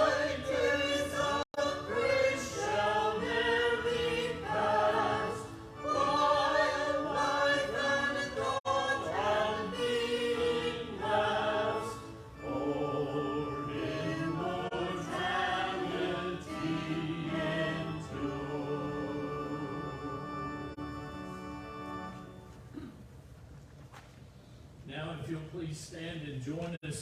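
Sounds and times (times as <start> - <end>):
church choir singing: 0.0 - 22.4.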